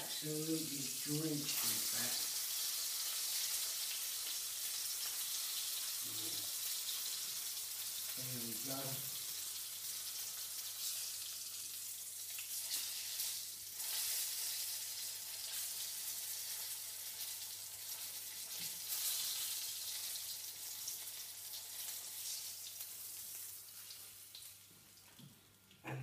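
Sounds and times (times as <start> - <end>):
chicken frying in hot oil: 0.0 - 25.8.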